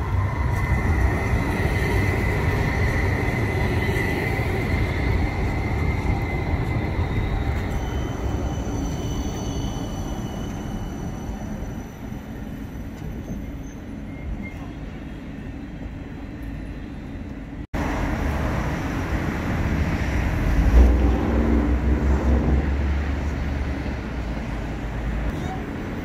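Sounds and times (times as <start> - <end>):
tram running rumble: 0.0 - 26.0.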